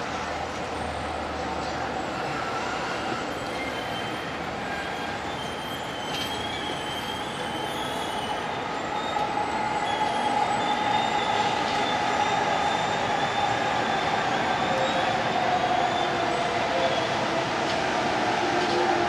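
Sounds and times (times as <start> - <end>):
train rumble: 0.0 - 19.0
train wheels squealing: 0.8 - 17.7.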